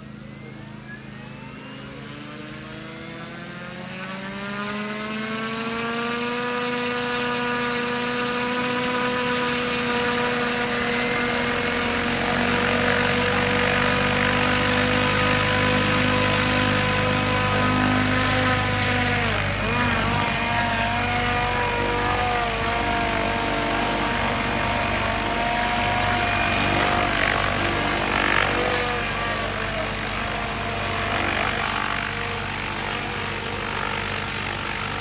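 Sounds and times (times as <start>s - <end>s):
helicopter rotor spinning up: 1.2s - 35.0s.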